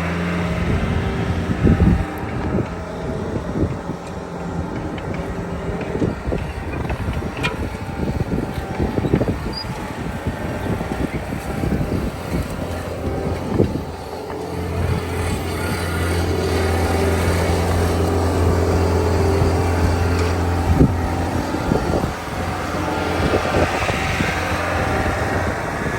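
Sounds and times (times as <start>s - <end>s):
diesel engine running under load: 0.0s - 25.9s
machine clanking and rattling: 1.4s - 25.3s.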